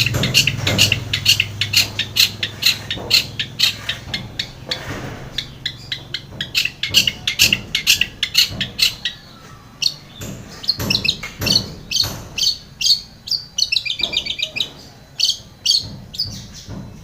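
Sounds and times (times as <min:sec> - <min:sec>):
bird chipping calls: 0:00.0 - 0:17.0.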